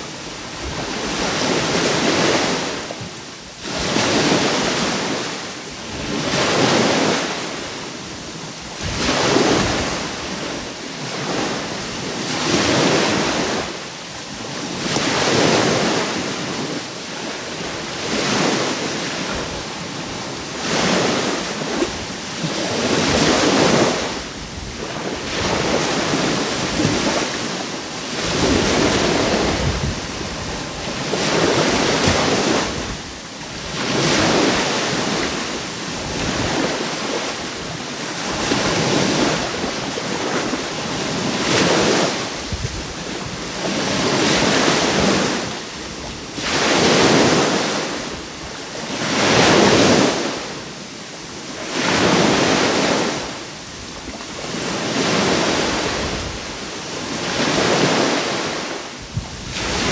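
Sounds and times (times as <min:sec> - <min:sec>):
small waves breaking on shore: 0:00.0 - 0:59.9.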